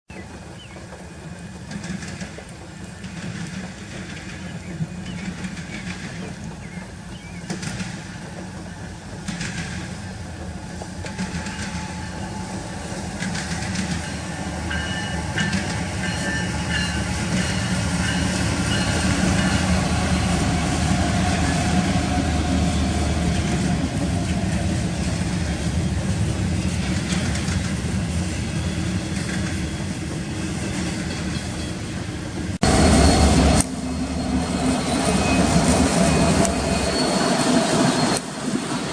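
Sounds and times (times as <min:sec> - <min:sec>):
wheels clicking over rail joints: 0:00.1 - 0:32.8
freight train rolling past: 0:00.1 - 0:38.9.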